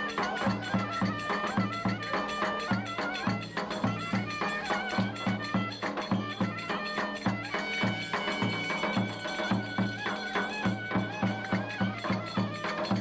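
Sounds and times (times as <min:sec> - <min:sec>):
reedy wind instrument melody: 0:00.0 - 0:13.0
steady drum beat: 0:00.0 - 0:13.0.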